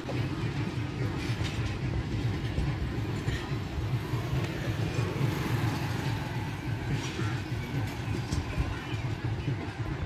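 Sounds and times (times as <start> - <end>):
faint wheel clatter: 0.0 - 10.0
train coaches rumbling: 0.0 - 10.0.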